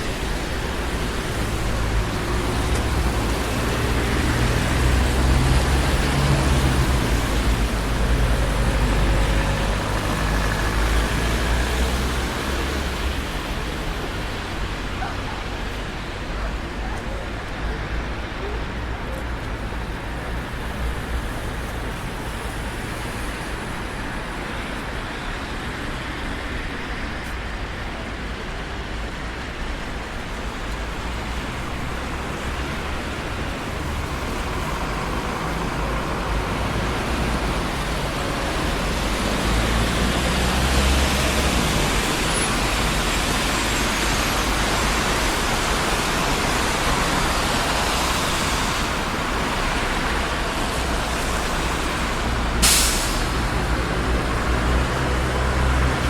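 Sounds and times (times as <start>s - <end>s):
low traffic rumble: 0.0s - 56.0s
passing cars: 0.0s - 56.0s.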